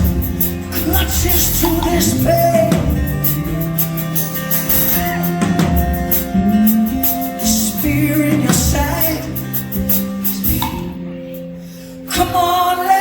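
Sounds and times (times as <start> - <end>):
drum kit cymbals: 0.0 - 11.5
bass guitar: 0.0 - 13.0
electric guitar: 0.0 - 13.0.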